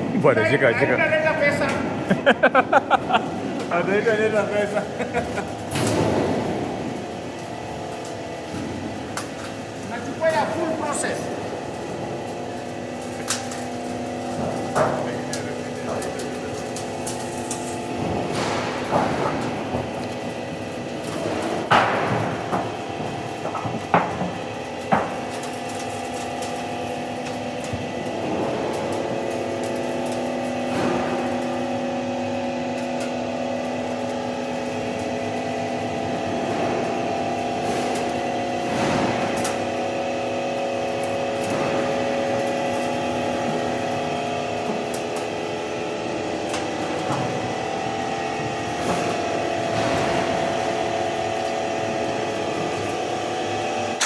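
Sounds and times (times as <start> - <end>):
roll forming machine humming: 0.0 - 54.0.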